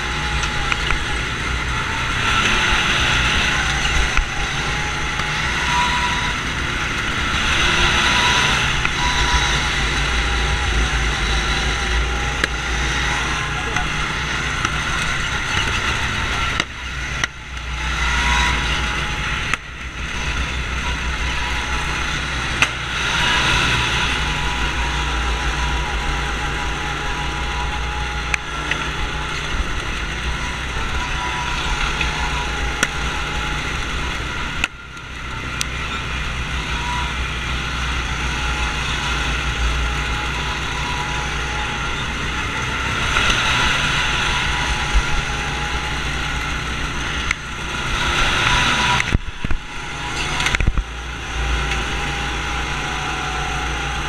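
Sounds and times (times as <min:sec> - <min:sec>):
go-kart engines under throttle: 0:00.0 - 0:54.0.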